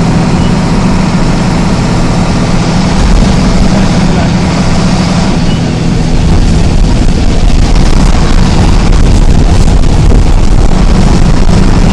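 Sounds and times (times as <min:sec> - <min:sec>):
bus diesel engine droning: 0:00.0 - 0:11.9
wind and road rush: 0:00.0 - 0:11.9.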